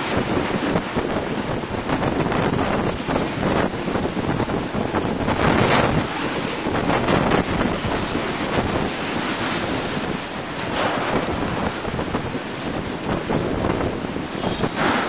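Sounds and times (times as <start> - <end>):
hurricane wind buffeting microphone: 0.0 - 15.0.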